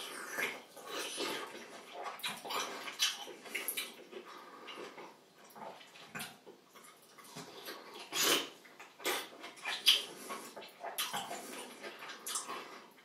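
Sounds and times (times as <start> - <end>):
wet chewing and smacking: 0.0 - 13.0.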